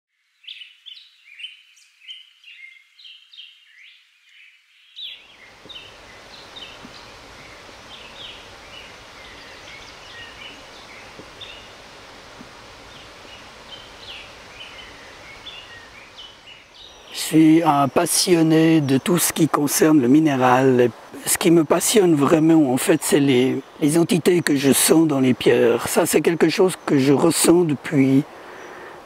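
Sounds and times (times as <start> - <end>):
songbirds chirping and trilling: 0.2 - 29.0
river running over stones: 5.3 - 29.0.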